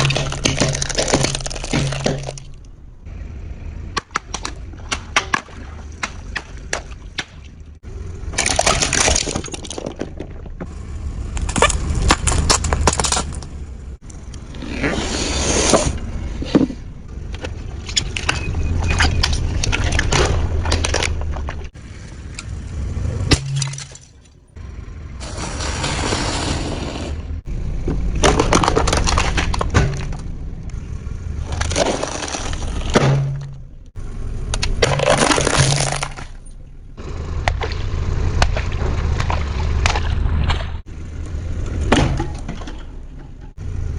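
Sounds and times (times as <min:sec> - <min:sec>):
car engine rumble: 0:00.0 - 0:43.9
objects crunching under tyres: 0:00.0 - 0:43.9.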